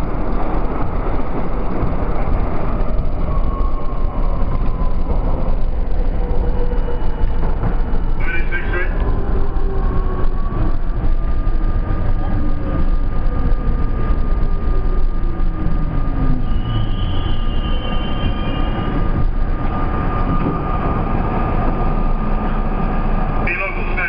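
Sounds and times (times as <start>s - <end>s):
steady whine: 0.0s - 24.0s
subway train wheels rumbling: 0.0s - 24.0s
high-pitched squeal: 2.4s - 22.1s.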